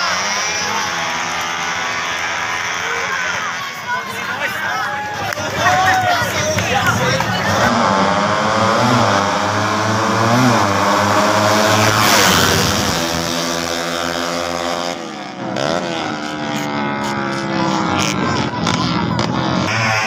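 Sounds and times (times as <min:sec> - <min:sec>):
racing motorcycles revving: 0:00.0 - 0:20.0.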